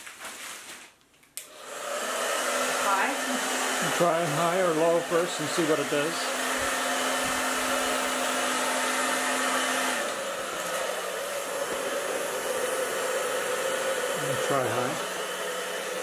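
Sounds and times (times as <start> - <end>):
hair dryer blowing: 1.4 - 16.0.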